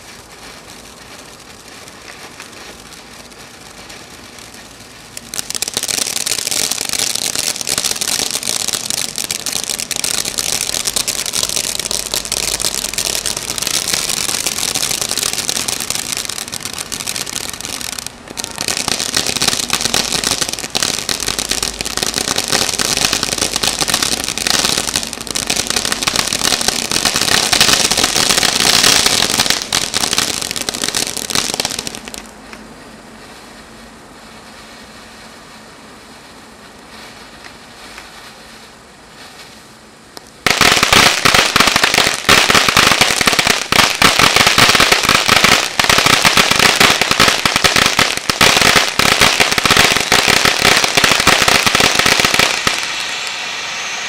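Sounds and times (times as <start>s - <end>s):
firework fountain hissing and crackling: 0.0s - 54.0s.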